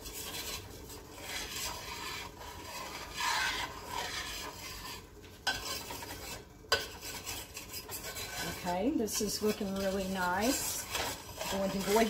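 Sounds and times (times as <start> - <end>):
metal spoon scraping saucepan: 0.0 - 12.0.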